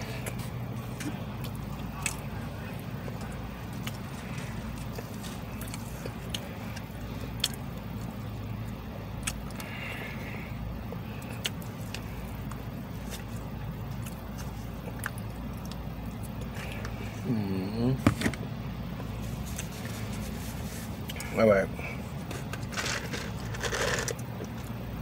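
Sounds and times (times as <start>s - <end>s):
car engine hum inside cabin: 0.0s - 25.0s.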